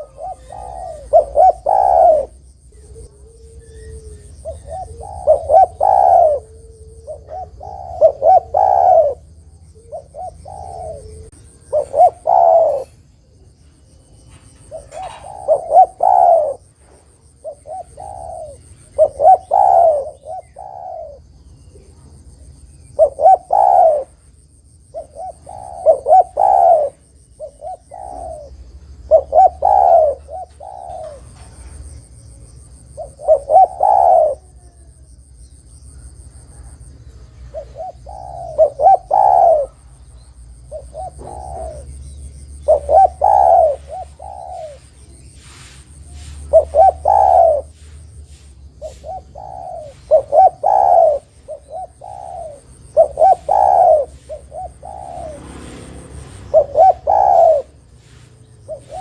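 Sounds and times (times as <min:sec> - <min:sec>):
dove cooing: 0:00.0 - 0:35.3, 0:35.9 - 0:59.0.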